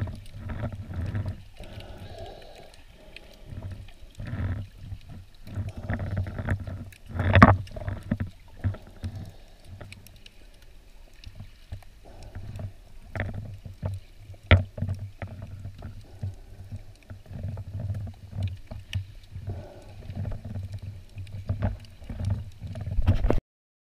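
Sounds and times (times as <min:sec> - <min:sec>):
muffled underwater water sloshing: 0:00.0 - 0:23.4.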